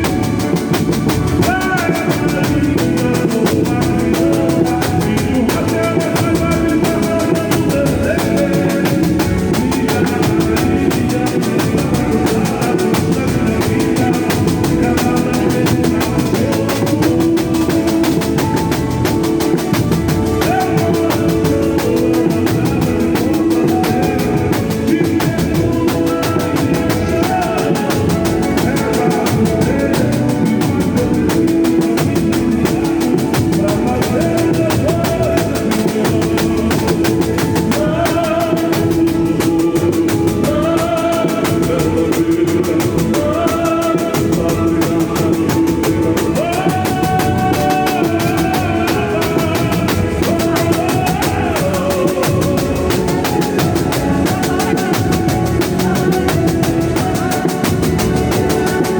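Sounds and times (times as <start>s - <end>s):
drum ensemble beat: 0.0s - 58.9s.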